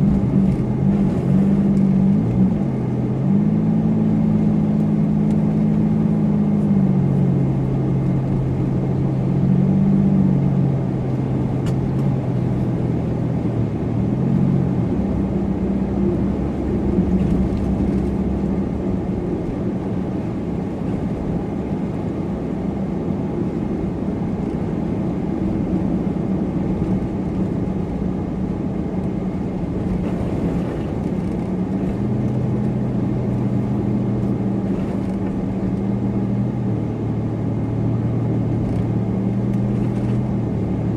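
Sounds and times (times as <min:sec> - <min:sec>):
car engine hum: 0:00.0 - 0:40.9
tyre and road rumble: 0:00.0 - 0:40.9.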